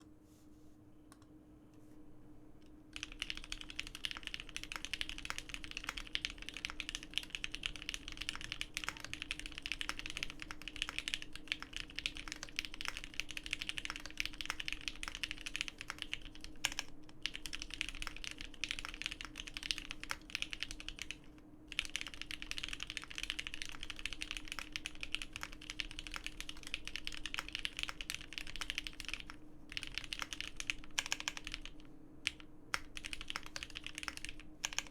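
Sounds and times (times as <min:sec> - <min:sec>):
typing on mechanical keyboard: 0:03.0 - 0:34.9.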